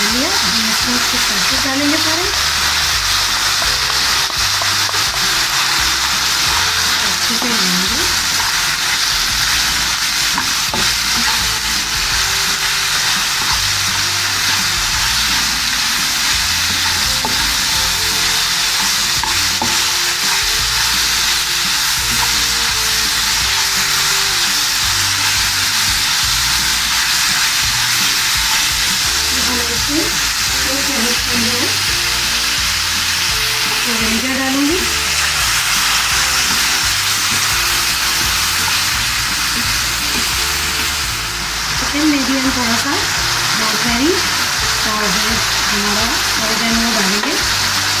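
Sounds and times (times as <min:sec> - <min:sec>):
chicken sizzling in hot oil: 0:00.0 - 0:48.0
spatula scraping a pan: 0:00.4 - 0:41.7.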